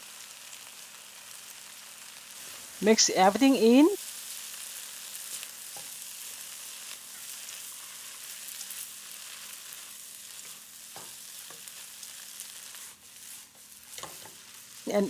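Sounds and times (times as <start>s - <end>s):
noodles sizzling in a wok: 0.0s - 15.0s.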